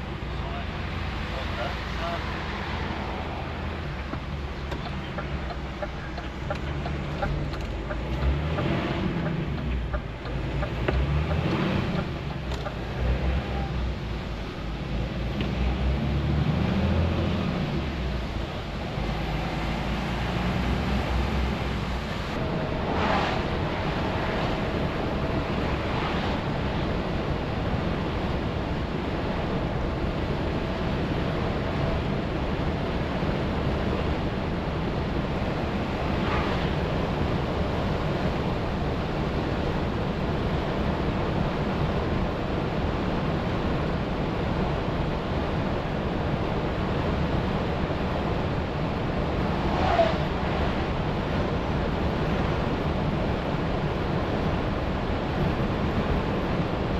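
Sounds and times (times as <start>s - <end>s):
truck engine: 0.0s - 54.6s
road and wind noise: 0.0s - 56.9s.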